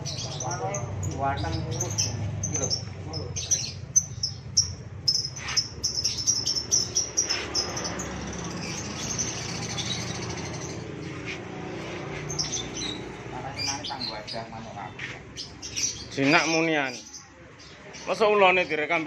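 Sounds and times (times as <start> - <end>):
caged birds chirping: 0.0 - 19.0.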